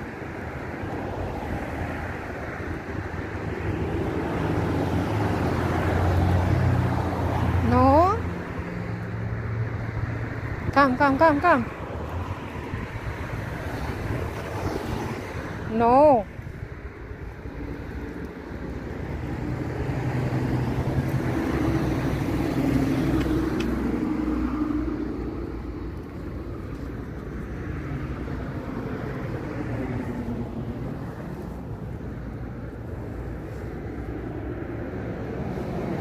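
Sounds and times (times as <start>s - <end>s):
steady traffic noise: 0.0s - 36.0s
car passing close by: 0.7s - 10.8s, 11.4s - 15.8s, 17.2s - 36.0s.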